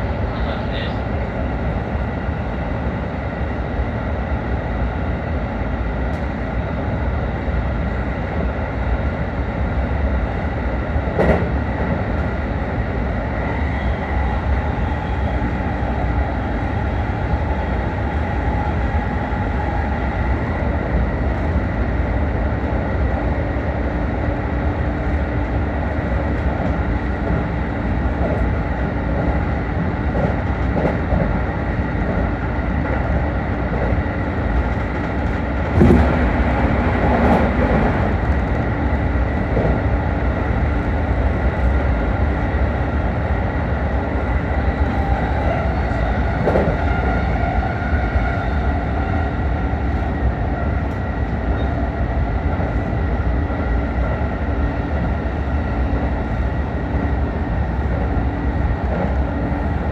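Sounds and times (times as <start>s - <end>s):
electric train rolling rumble: 0.0s - 59.9s.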